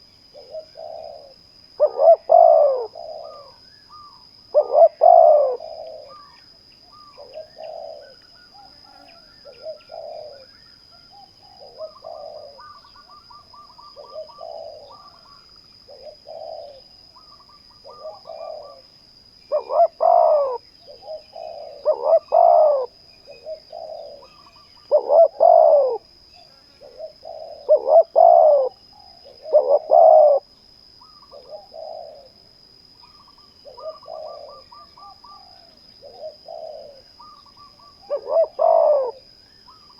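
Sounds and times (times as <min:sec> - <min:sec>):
doves cooing: 0:00.0 - 0:10.5, 0:11.1 - 0:18.9, 0:19.5 - 0:26.1, 0:26.8 - 0:32.4, 0:33.0 - 0:39.9
faint small-bird chirps: 0:02.9 - 0:04.2, 0:04.9 - 0:18.9, 0:20.6 - 0:30.2, 0:31.0 - 0:32.3, 0:33.0 - 0:39.9.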